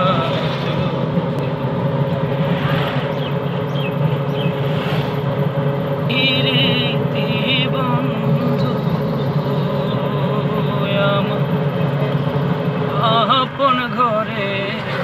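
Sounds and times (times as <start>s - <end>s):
auto-rickshaw engine running: 0.0s - 15.0s.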